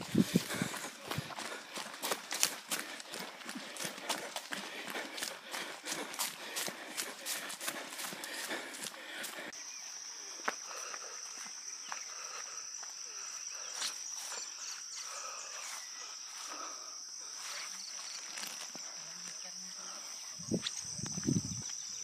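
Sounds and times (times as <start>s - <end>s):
footsteps on trail: 0.0s - 22.0s
insects droning in grass: 0.0s - 22.0s.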